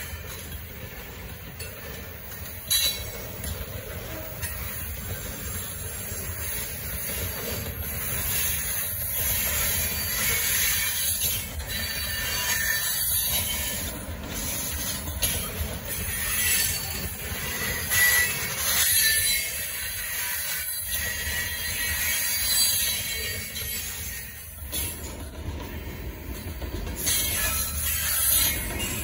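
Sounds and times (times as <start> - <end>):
train wheels rumbling on rails: 0.0 - 29.0
high wheel squeal: 2.4 - 25.2, 27.0 - 29.0.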